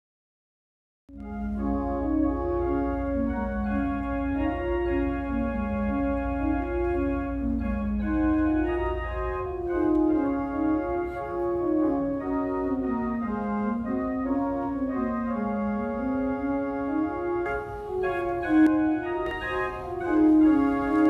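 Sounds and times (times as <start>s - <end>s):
held low organ bass note: 1.1s - 21.0s
slow organ music: 1.1s - 21.0s.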